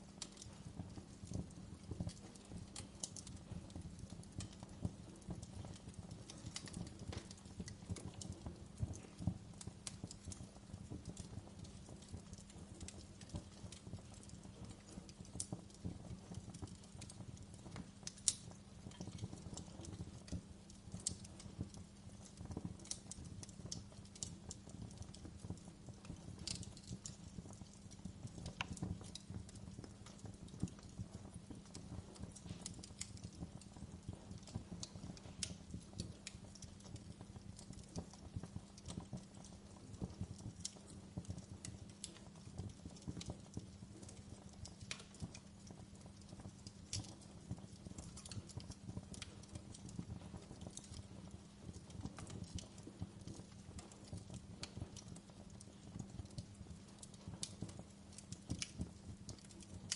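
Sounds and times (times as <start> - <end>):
low rumble of flames: 0.0 - 59.9
wood fire popping and snapping: 0.0 - 59.9.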